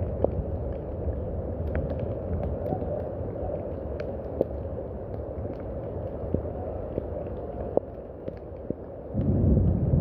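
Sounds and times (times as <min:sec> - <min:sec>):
low rumble: 0:00.0 - 0:10.0
steady rain: 0:00.0 - 0:10.0.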